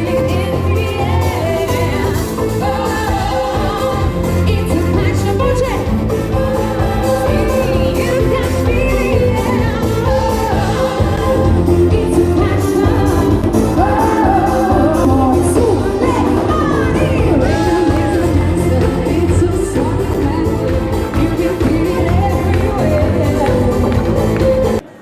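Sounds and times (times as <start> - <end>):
heavy bass beat: 0.0 - 24.8
crowd noise: 0.0 - 25.0
live pop music through pa: 0.0 - 25.0
person singing: 0.0 - 25.0.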